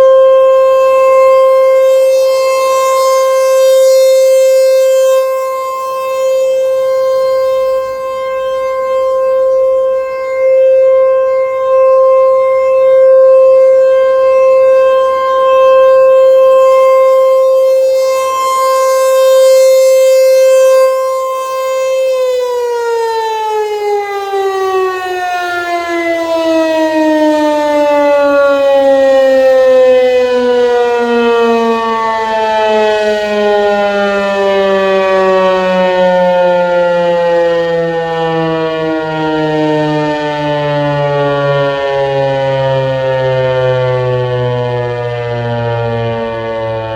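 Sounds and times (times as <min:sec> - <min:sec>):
rotating tornado siren: 0:00.0 - 0:46.9.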